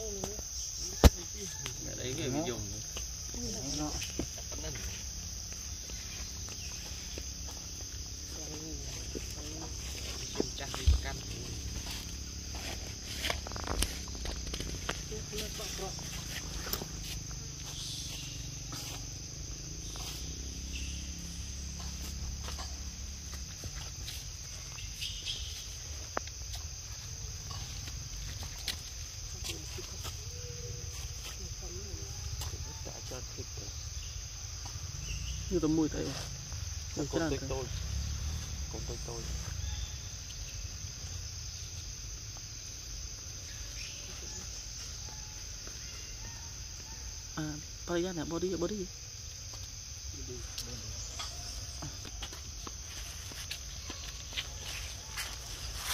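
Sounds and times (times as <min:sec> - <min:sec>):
insect chorus drone: 0:00.0 - 0:55.9.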